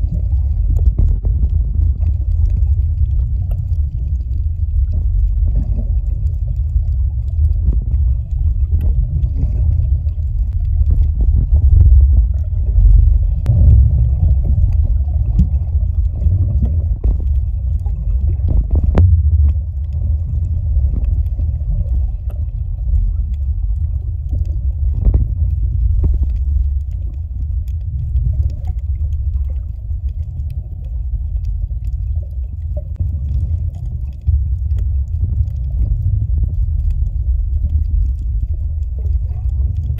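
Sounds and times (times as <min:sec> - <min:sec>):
underwater rumble of water: 0:00.0 - 0:39.9.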